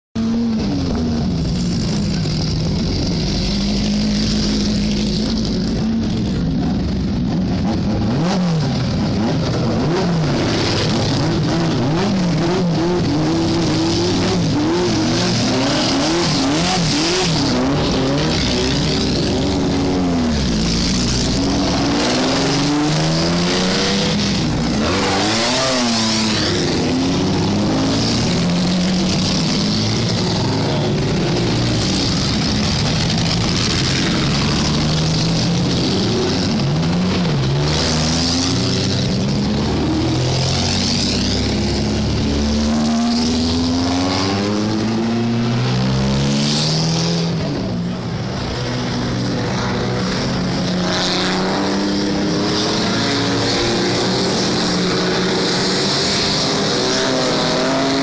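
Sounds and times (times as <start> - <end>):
racing car engines revving: 0.2 - 58.0.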